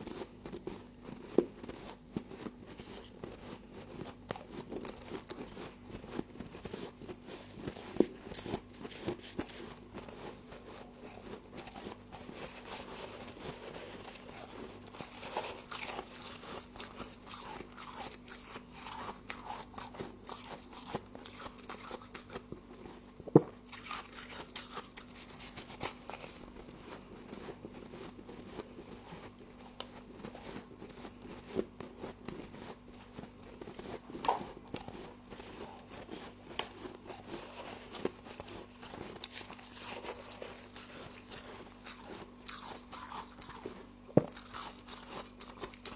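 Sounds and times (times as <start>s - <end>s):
crunching and chewing of frost: 0.0s - 45.9s.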